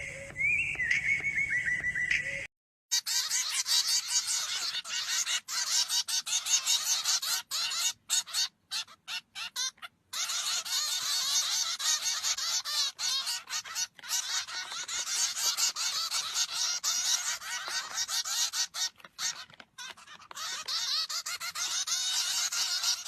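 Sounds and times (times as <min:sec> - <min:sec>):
flock of birds calling: 0:02.1 - 0:23.0.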